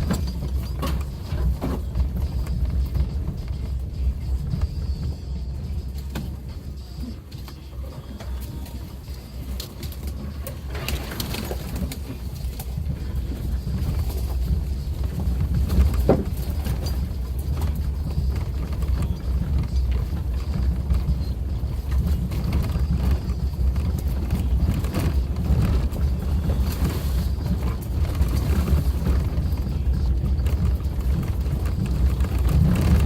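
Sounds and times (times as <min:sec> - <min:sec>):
vehicle engine and tyres droning: 0:00.0 - 0:33.0.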